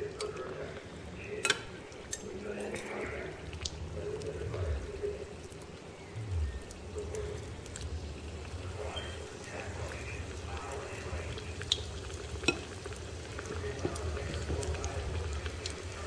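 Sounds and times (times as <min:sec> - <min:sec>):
oil sizzling and bubbling in wok: 0:00.8 - 0:16.0.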